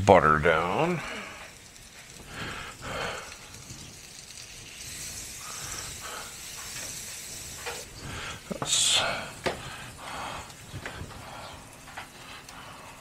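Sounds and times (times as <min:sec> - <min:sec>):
butter sizzling on a griddle: 0:00.3 - 0:13.0.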